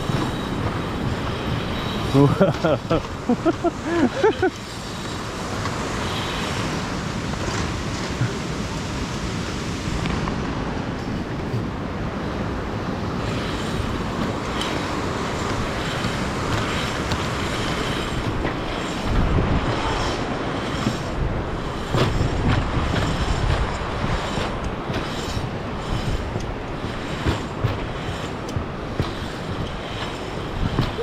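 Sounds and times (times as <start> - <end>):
pulleys rolling on steel cable: 0.0 - 10.2, 12.4 - 31.0
wind on microphone: 0.0 - 31.0.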